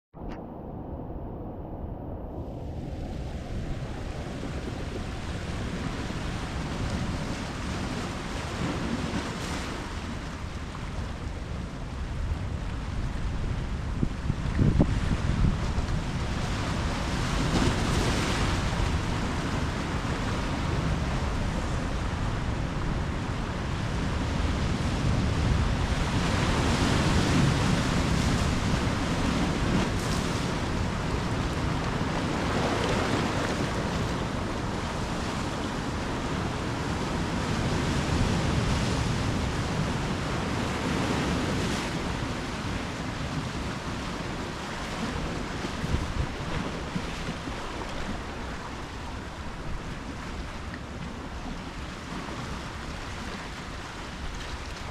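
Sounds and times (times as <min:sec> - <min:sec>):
ocean waves breaking: 0:00.2 - 0:13.9, 0:15.0 - 0:54.9
wind rumble on microphone: 0:00.2 - 0:54.9.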